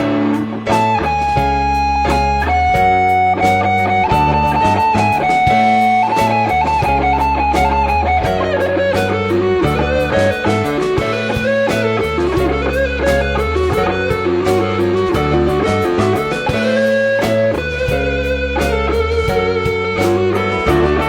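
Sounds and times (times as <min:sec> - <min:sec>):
bass guitar: 0:00.0 - 0:21.0
drums: 0:00.0 - 0:21.0
electric guitar lead: 0:00.0 - 0:21.0.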